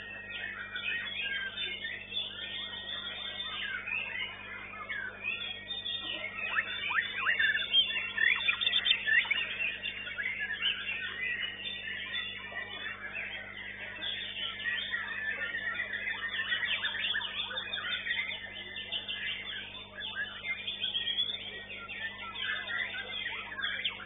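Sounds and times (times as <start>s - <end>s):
bird singing whistles and trills: 0.0s - 24.0s.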